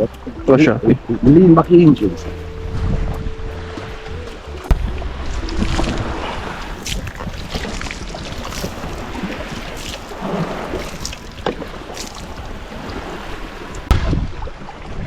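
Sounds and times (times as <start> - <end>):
water slapping against hull: 0.0 - 15.0
wind buffeting microphone: 0.0 - 15.0.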